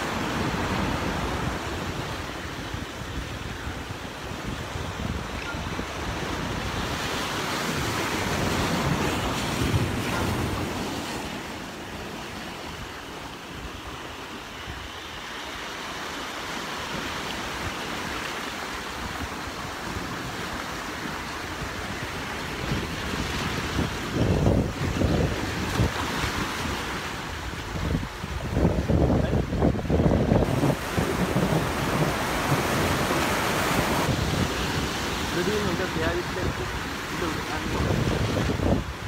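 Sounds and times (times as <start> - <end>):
wind on microphone: 0.0 - 15.0, 19.0 - 39.0
waves breaking on shore: 0.0 - 39.0.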